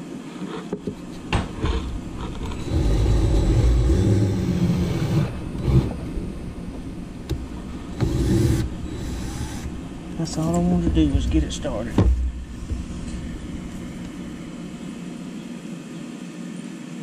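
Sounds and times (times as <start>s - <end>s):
low rumble: 0.9s - 15.6s.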